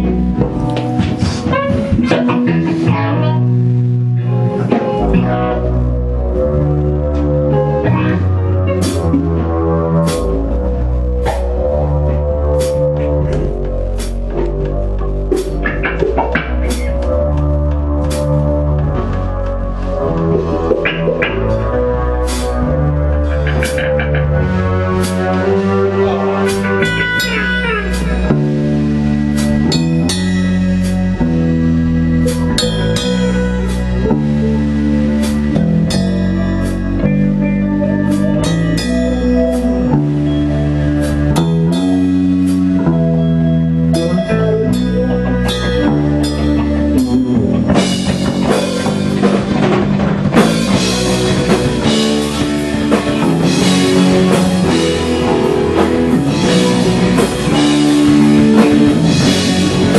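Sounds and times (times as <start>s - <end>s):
bass: 0.0s - 59.9s
drum kit: 0.0s - 59.9s
electric guitar chords: 0.0s - 59.9s.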